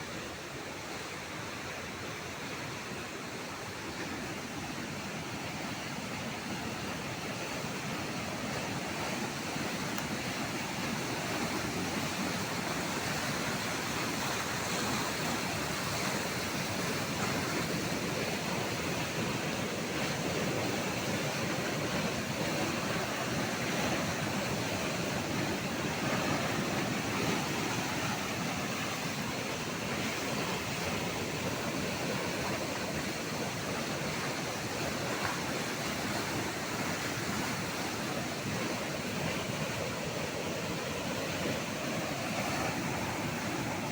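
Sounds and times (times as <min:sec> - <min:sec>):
rushing water: 0:00.0 - 0:43.9.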